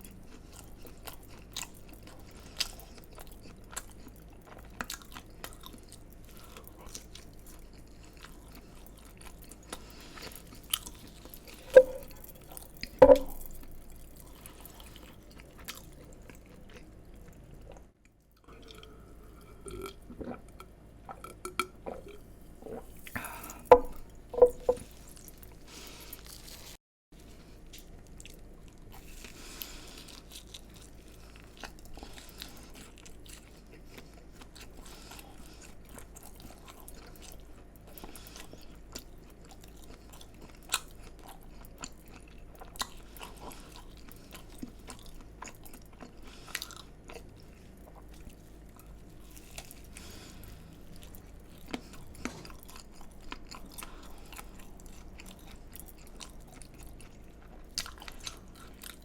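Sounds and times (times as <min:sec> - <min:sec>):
chewing crunchy fried food: 0:00.0 - 0:59.0.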